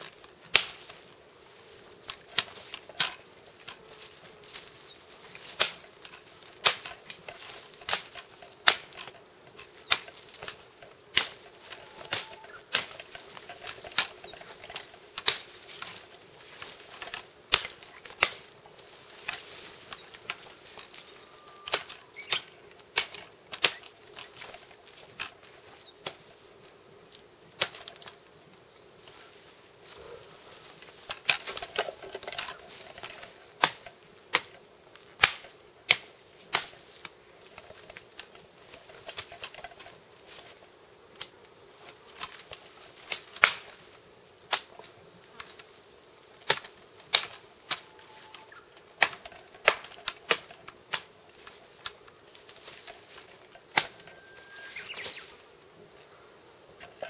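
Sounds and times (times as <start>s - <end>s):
twigs and branches snapping: 0.0s - 56.1s
foliage rustling: 0.0s - 57.0s.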